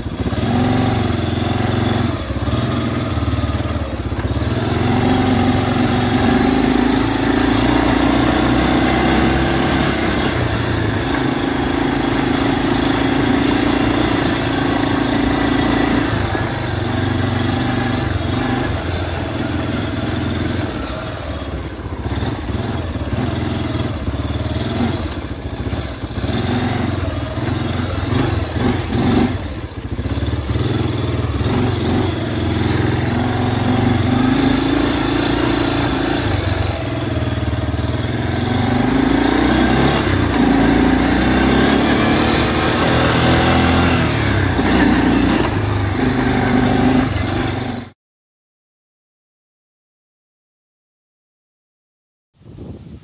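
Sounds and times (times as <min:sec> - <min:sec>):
atv engine running: 0:00.0 - 0:48.0.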